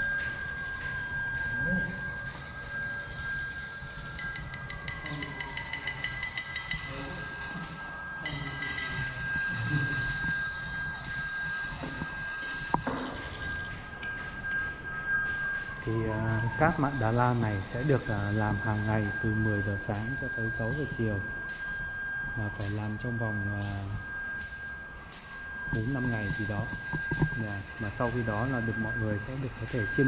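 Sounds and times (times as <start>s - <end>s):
bell-like metallic ringing: 0.0s - 30.0s.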